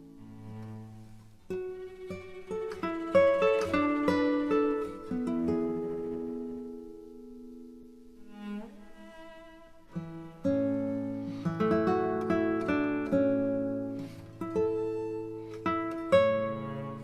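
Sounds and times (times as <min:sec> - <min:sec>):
plucked guitar-like melody: 0:00.0 - 0:17.0.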